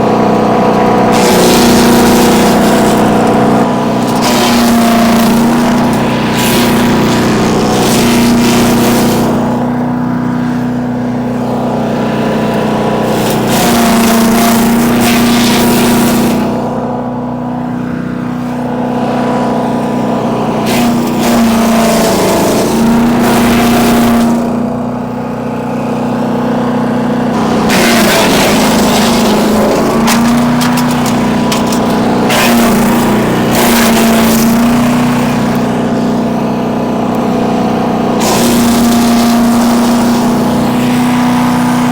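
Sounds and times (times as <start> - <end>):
loud crackling wood chipping: 0.0 - 16.7, 20.3 - 24.8, 26.6 - 41.9
wood chipper engine running: 0.0 - 41.9.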